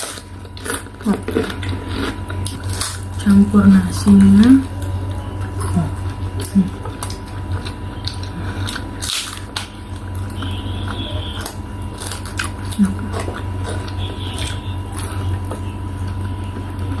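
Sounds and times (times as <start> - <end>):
person chewing close up: 0.0 - 3.2, 4.8 - 17.0
steady low hum: 0.0 - 17.0.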